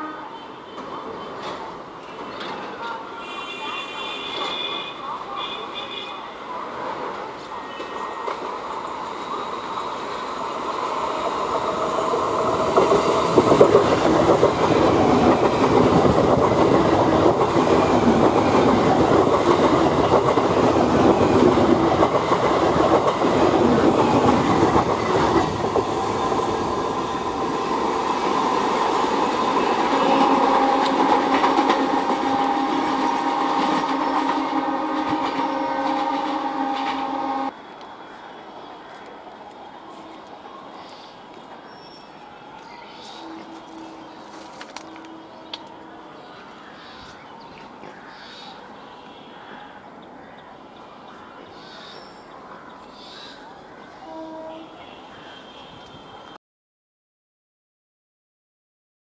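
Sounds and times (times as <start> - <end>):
train passing: 0.0 - 56.4.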